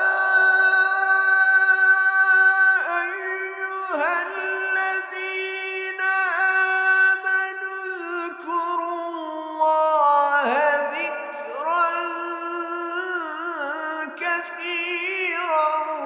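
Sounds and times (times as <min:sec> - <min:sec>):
man chanting melodic verse: 0:00.0 - 0:16.0.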